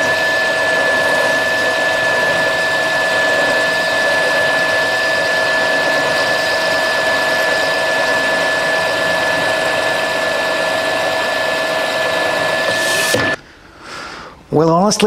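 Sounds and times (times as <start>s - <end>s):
drill machine hum: 0.0s - 13.4s
drill whine of two tones: 0.0s - 13.4s.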